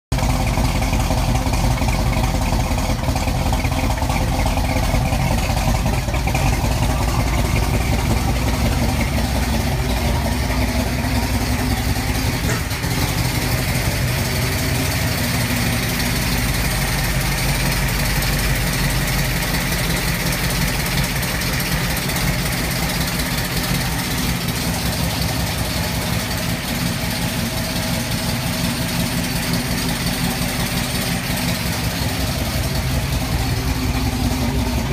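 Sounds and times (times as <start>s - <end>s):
car engine idling with misfire: 0.1s - 34.9s.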